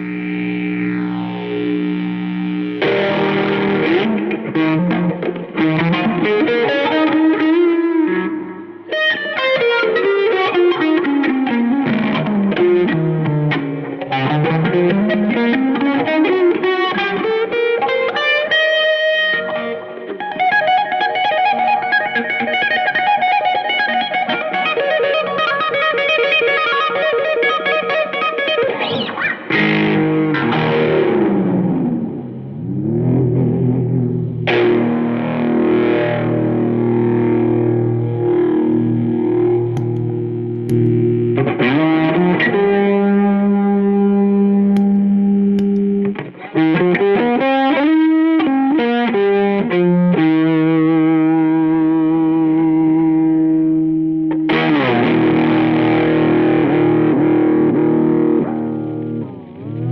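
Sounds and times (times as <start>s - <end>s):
electric guitar through effects: 0.0s - 59.9s.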